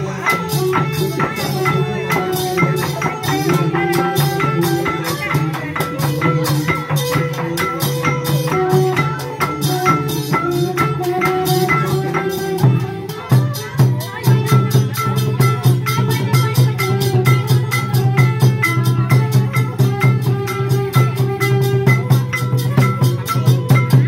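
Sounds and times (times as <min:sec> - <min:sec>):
drums and hand percussion: 0:00.0 - 0:24.0.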